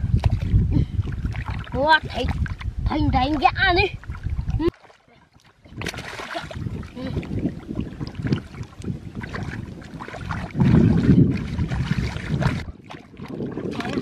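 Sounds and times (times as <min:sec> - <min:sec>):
fish splashing in shallow water: 0:00.0 - 0:14.0.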